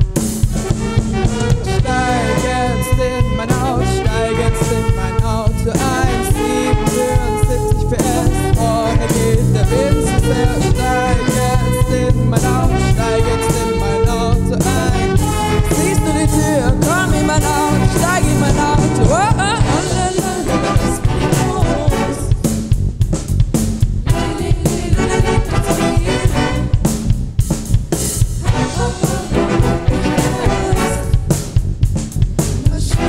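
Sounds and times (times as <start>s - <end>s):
big band playing: 0.0s - 33.0s
women singing: 1.4s - 22.3s, 24.1s - 26.7s, 28.4s - 31.3s, 32.6s - 33.0s.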